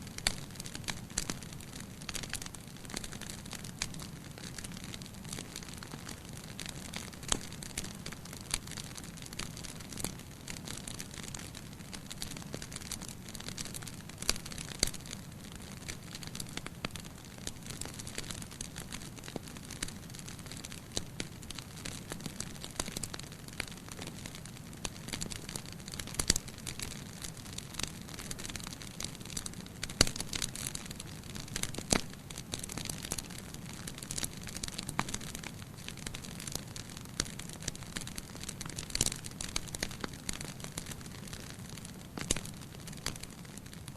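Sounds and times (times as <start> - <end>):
bonfire crackling and popping: 0.0 - 43.9.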